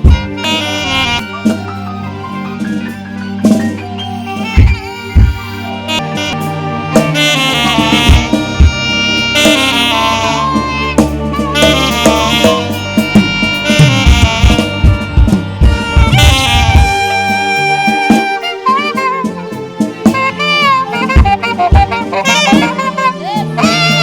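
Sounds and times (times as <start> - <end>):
live band with drums: 0.0 - 24.0
saxophone melody: 0.0 - 24.0.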